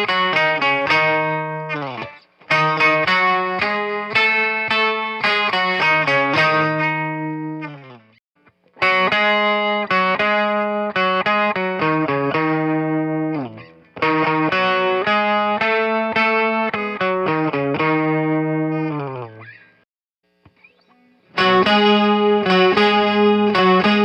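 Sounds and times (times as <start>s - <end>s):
jangly electric guitar: 0.0s - 19.8s, 20.5s - 24.0s.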